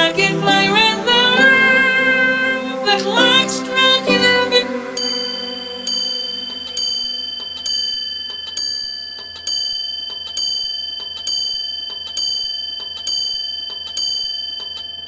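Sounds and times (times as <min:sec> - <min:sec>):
clock chiming: 0:00.0 - 0:14.8.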